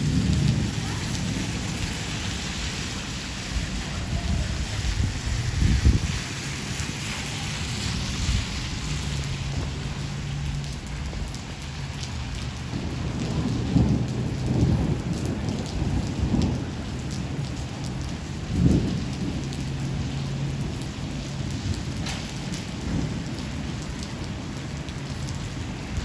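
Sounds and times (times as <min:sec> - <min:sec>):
heavy rain falling: 0:00.0 - 0:26.0
rolling thunder: 0:00.0 - 0:26.0.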